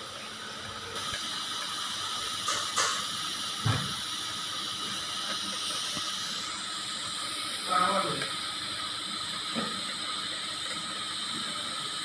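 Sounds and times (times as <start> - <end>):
welding arc hissing: 0.0 - 12.0.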